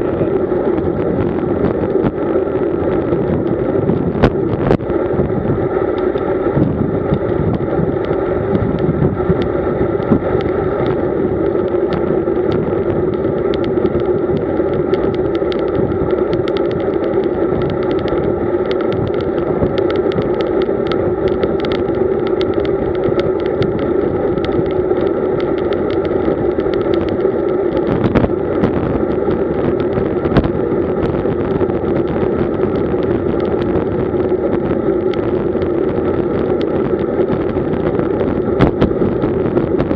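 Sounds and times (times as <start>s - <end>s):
hum of tyres and wind: 0.0s - 39.9s
ticks and rattles from road: 0.0s - 39.9s.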